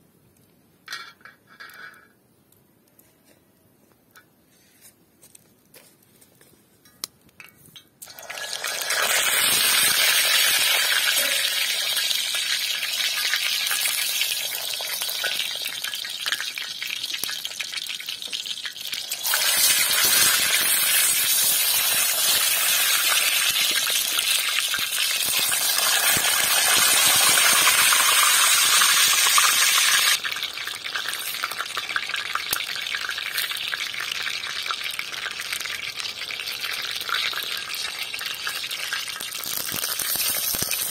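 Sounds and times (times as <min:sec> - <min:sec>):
hot oil sizzling on griddle: 0:08.0 - 0:40.9.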